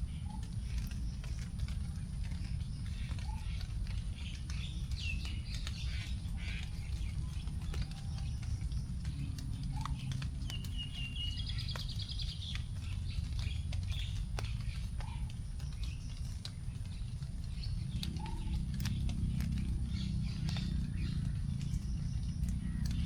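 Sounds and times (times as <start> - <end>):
forest birds chirping: 0.0 - 23.0
raindrops dripping onto leaves: 0.0 - 23.0
steady low rumble: 0.0 - 23.0.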